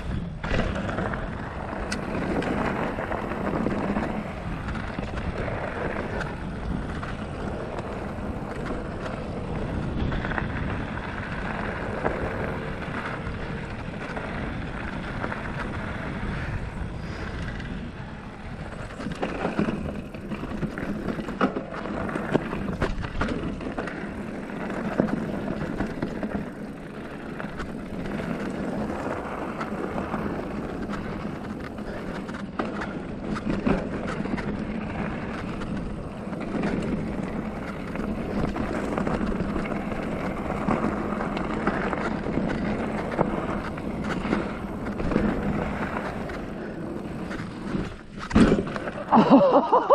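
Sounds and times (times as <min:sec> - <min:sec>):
bike tyre rumble on dirt: 0:00.0 - 0:49.9.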